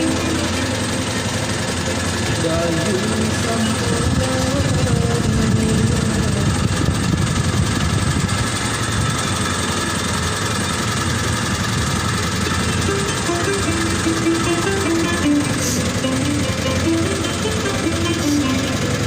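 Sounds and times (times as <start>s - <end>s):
motorboat engine chugging: 0.0s - 19.0s.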